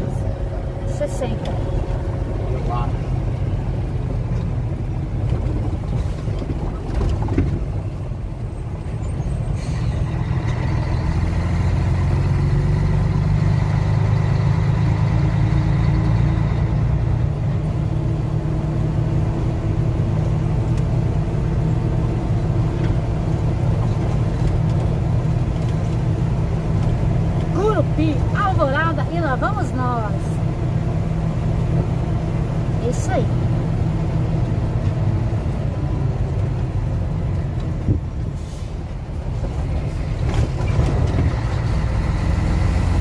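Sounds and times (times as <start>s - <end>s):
diesel engine droning: 0.0s - 43.0s
road noise: 0.0s - 43.0s.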